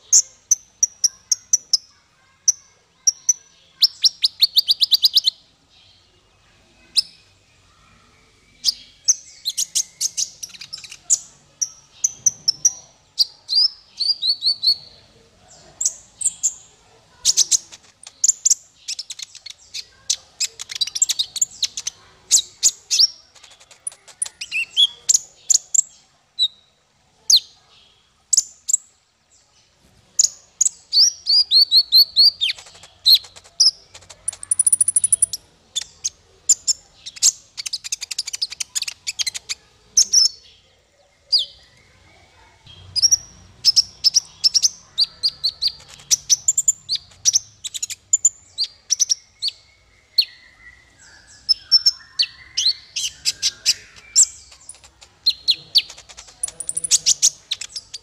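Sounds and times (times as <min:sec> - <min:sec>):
bird chirps and trills: 0:00.0 - 0:06.1, 0:06.8 - 0:15.0, 0:15.8 - 0:27.6, 0:30.2 - 0:58.0.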